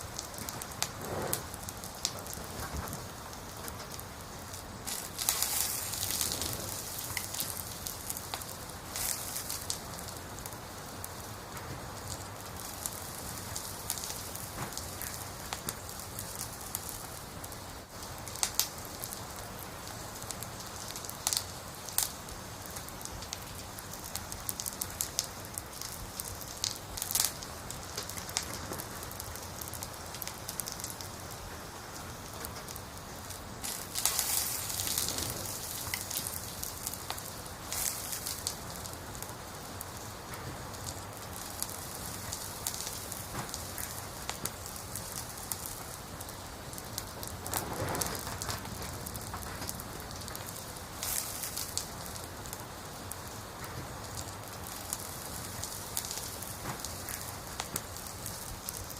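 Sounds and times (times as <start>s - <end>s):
campfire crackling and hissing: 0.0s - 58.9s
sharp pops from fire: 0.0s - 58.9s.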